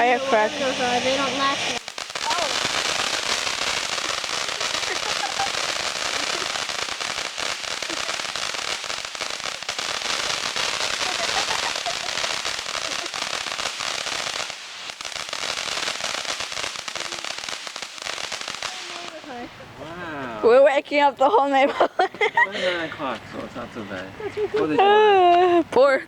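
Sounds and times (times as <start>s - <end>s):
firecrackers crackling: 0.0s - 21.1s.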